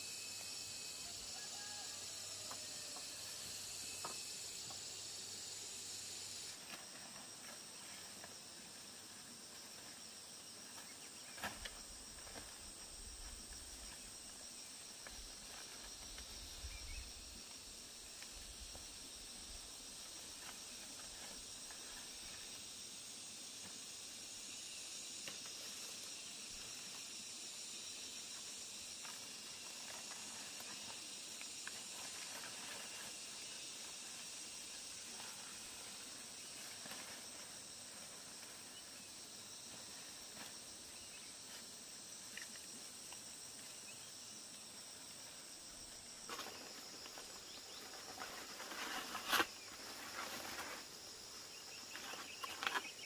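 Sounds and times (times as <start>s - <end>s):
insects droning: 0.0s - 53.0s.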